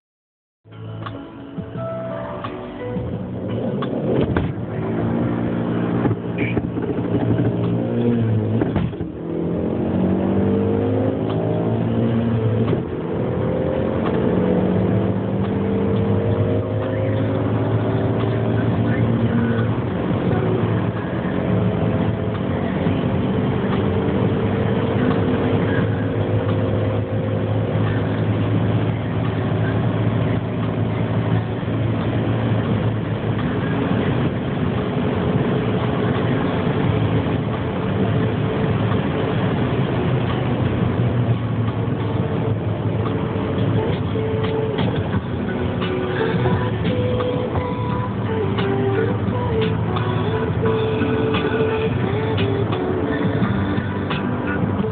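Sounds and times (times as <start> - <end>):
car engine accelerating: 0.8 - 54.9.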